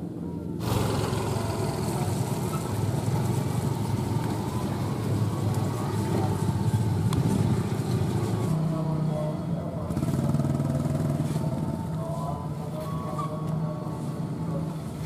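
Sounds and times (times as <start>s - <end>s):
traffic engine and tyre rumble: 0.0s - 15.0s
motorcycles passing: 0.6s - 15.0s.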